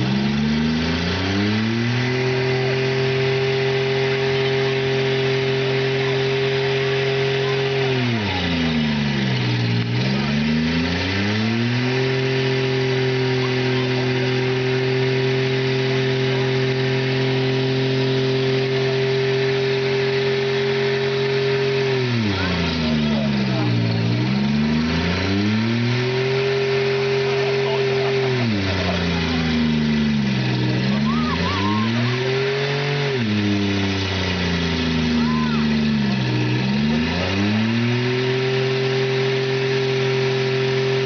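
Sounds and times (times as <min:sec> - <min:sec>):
car engine at high revs: 0:00.0 - 0:41.0
spinning tyres hissing: 0:00.0 - 0:41.0.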